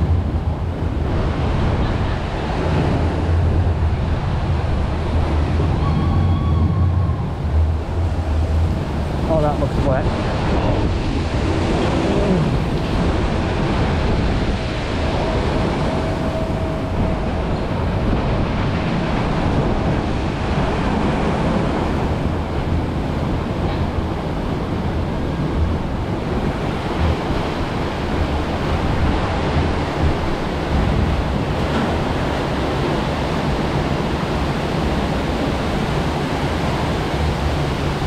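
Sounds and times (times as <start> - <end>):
water rushing: 0.0 - 38.0
wind on microphone: 0.0 - 38.0.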